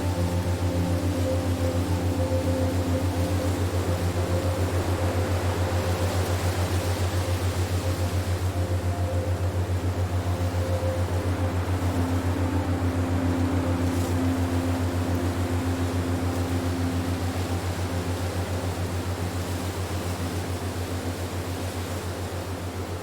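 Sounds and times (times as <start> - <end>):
low pulsing electronic drone: 0.0 - 23.0.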